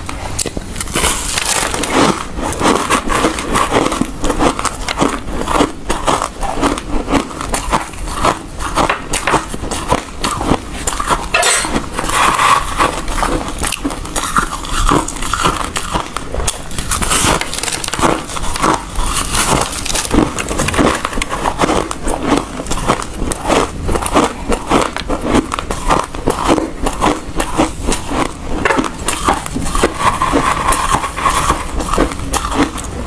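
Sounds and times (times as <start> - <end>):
person crunching ice: 0.0 - 33.0.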